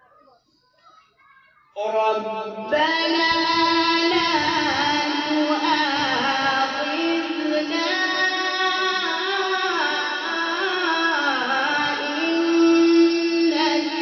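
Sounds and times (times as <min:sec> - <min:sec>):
person chanting melodically: 0:01.8 - 0:14.0.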